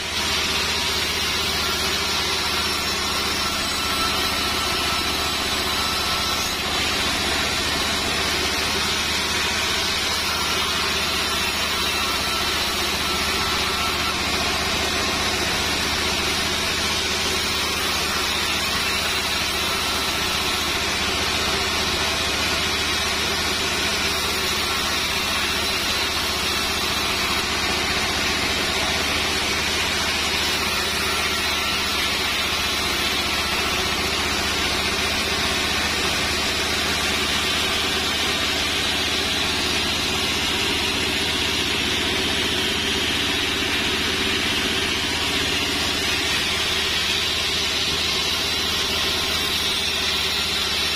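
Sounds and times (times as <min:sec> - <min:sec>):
band saw cutting wood: 0:00.0 - 0:50.9.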